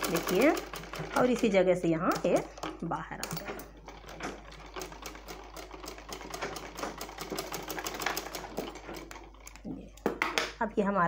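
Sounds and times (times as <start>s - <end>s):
sewing machine running: 0.0s - 9.6s.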